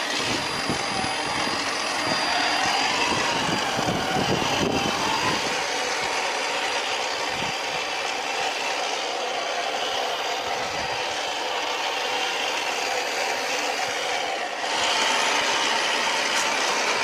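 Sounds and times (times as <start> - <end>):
toy car electric motor whine: 0.0 - 17.0.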